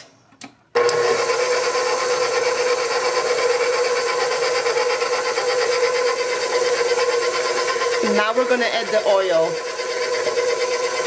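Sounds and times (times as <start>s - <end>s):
stand mixer motor whine: 0.8s - 11.0s.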